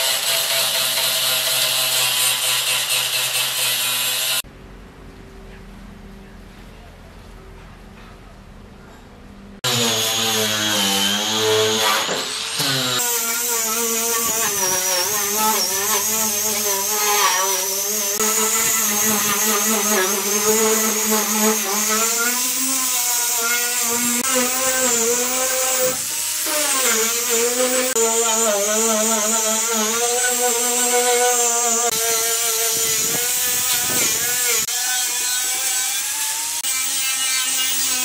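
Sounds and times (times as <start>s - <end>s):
angle grinder on sheet metal: 0.0s - 4.4s, 9.6s - 38.0s.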